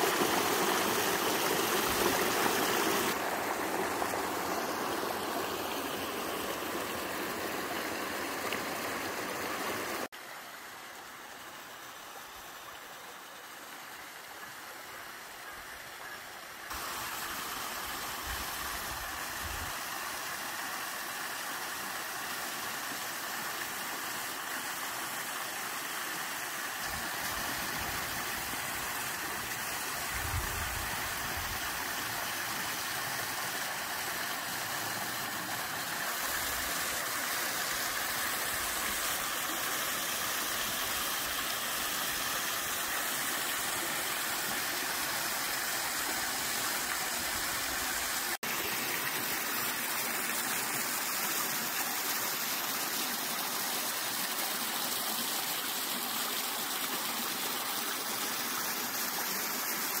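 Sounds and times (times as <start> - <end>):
stream water rushing and splashing: 0.0 - 60.0.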